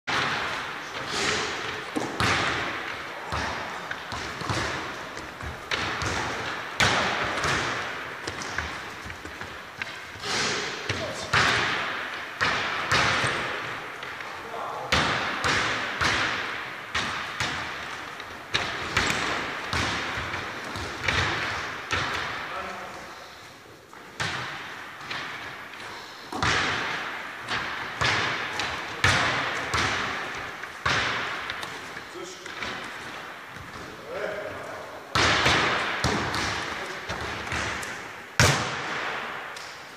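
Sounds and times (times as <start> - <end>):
basketball bouncing on wooden floor: 0.1 - 14.3, 14.9 - 22.4, 26.3 - 34.0, 35.1 - 39.2.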